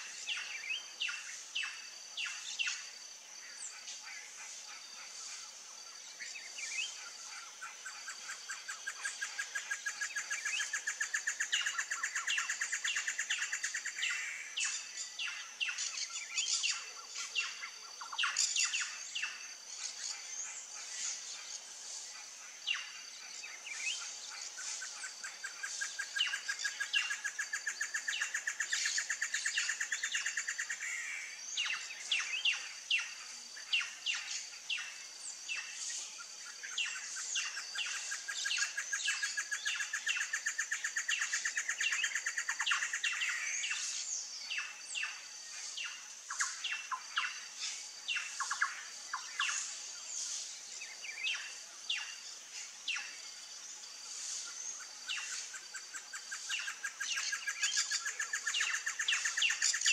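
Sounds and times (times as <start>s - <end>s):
birds chirping and calling: 6.1s - 53.3s, 54.1s - 59.9s.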